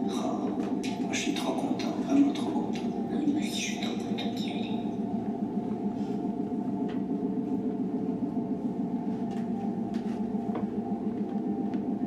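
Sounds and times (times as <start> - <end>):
low drone of held tones: 0.0 - 12.0.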